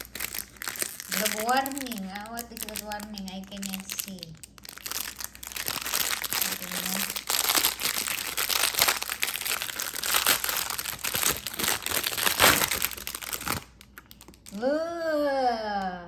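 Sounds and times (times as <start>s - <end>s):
packaging crinkling: 0.0s - 14.6s.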